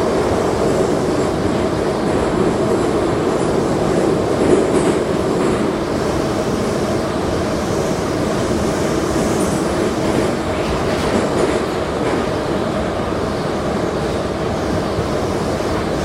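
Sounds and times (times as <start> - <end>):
metro wheels rumbling on rail: 0.0 - 16.0.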